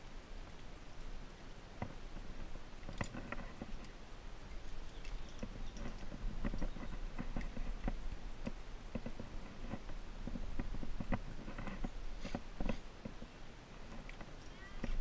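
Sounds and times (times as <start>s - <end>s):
clicks and taps of climbing gear: 1.7s - 4.0s, 4.6s - 15.0s.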